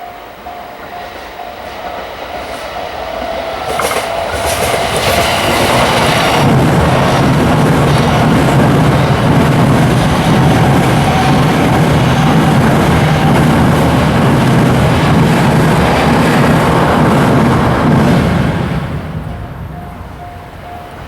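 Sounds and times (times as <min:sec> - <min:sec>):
train rushing rumble: 0:00.3 - 0:21.0.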